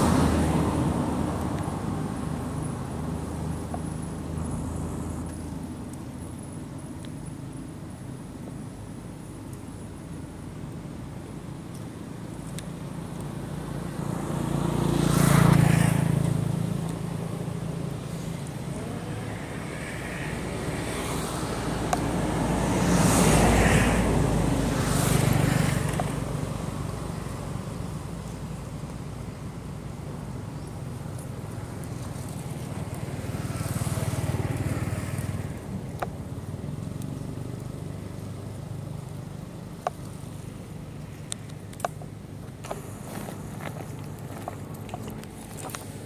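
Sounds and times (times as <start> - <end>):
motor vehicles passing: 0.0 - 8.8, 10.5 - 46.0
low engine hum: 0.0 - 46.0.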